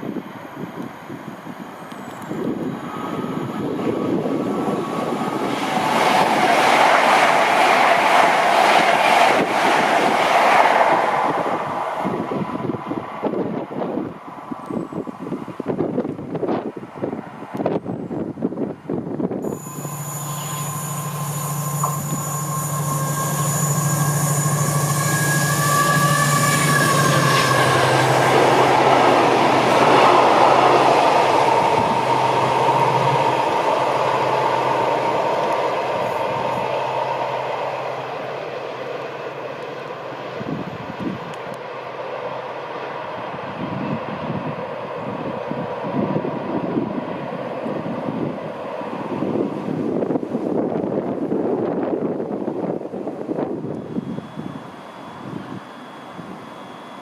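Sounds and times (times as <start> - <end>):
train whining tones: 0.0 - 16.4, 19.3 - 52.2, 53.3 - 57.0
train wheel and rail noise: 0.0 - 57.0.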